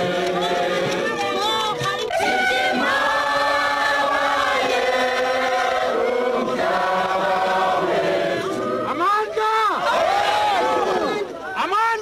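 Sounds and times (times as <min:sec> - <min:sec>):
crowd singing as a choir: 0:00.0 - 0:11.5.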